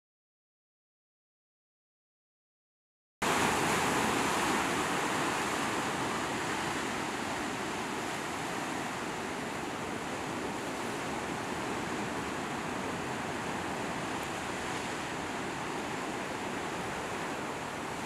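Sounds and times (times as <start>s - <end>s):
ocean surf over rocks: 3.2s - 18.0s.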